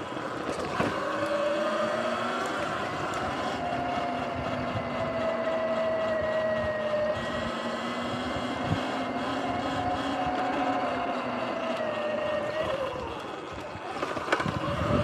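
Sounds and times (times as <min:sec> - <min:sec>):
electric motor whine: 0:00.0 - 0:15.0
tyre and wind noise: 0:00.0 - 0:15.0.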